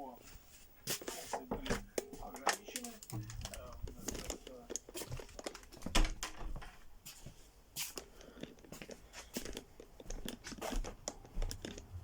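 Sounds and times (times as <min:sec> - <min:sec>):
handling rustling and clicking: 0:01.0 - 0:11.9.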